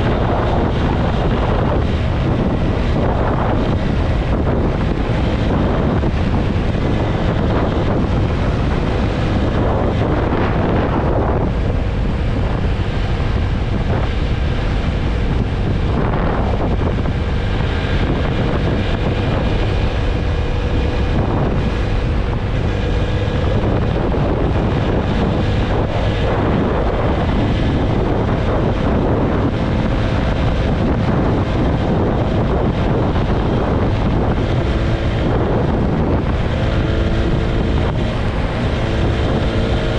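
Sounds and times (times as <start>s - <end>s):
faint motorcycle engine hum: 0.0s - 39.9s
wind buffeting microphone: 0.0s - 39.9s.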